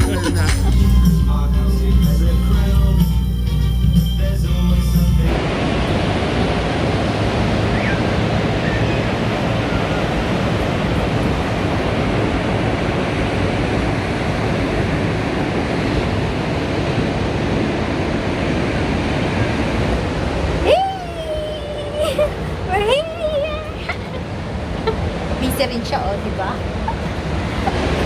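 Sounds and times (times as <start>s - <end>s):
ocean surf rushing on beach: 0.0s - 28.0s
wind on microphone: 4.6s - 28.0s.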